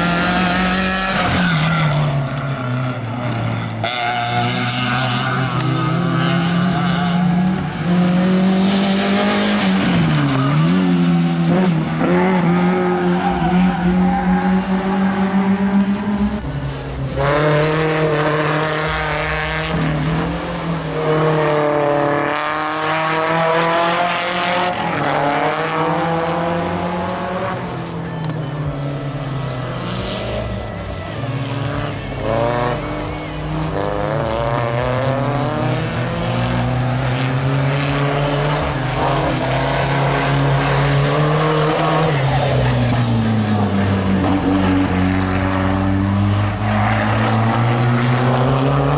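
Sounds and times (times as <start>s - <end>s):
racing car engines revving: 0.0s - 48.9s.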